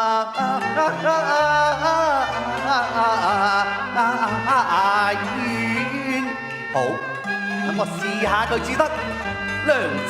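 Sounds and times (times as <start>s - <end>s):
instrumental accompaniment: 0.0s - 10.0s
person singing opera: 0.0s - 10.0s.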